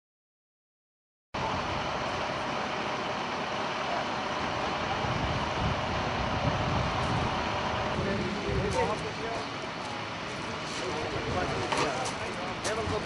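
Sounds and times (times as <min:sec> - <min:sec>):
large vehicle engine running: 0:01.4 - 0:13.0.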